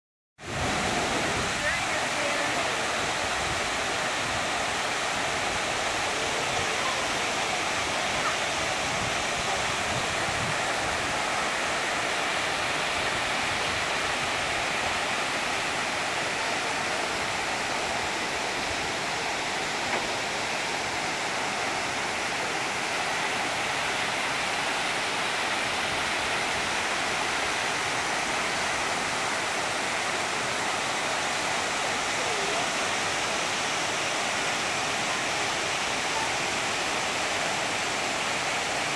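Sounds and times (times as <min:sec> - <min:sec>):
waterfalls rushing: 0:00.4 - 0:38.9.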